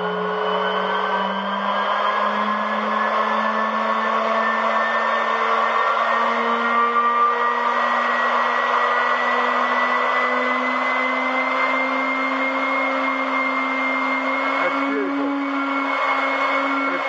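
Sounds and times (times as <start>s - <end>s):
mixer motor whine: 0.0s - 17.0s.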